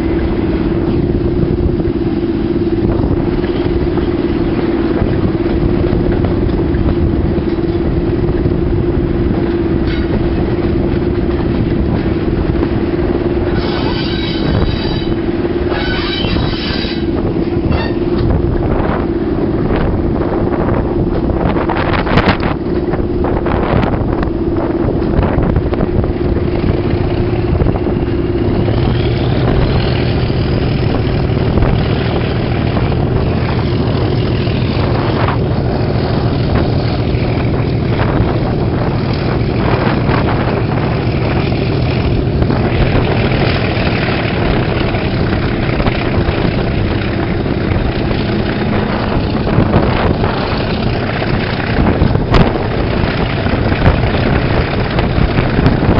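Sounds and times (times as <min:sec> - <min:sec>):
locomotive diesel engine working: 0:00.0 - 0:55.9
rising engine whine: 0:00.0 - 0:55.9
wind buffeting microphone: 0:00.0 - 0:55.9.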